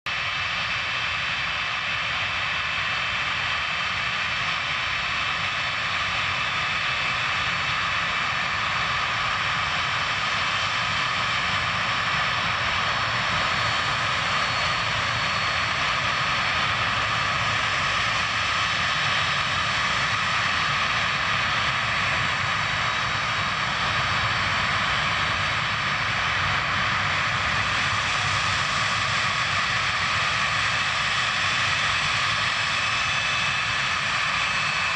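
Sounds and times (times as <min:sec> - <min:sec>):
jet engines whining: 0:00.2 - 0:34.9.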